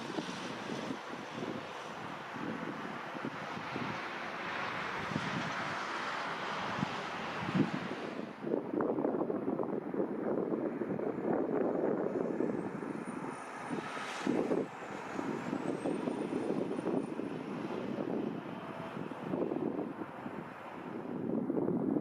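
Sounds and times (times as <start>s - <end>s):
high engine whine: 0.0s - 22.0s
jet engines running: 0.0s - 22.0s.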